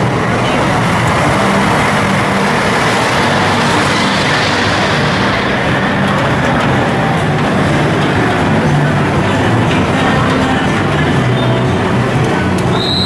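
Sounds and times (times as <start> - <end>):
dense street traffic: 0.0 - 13.0.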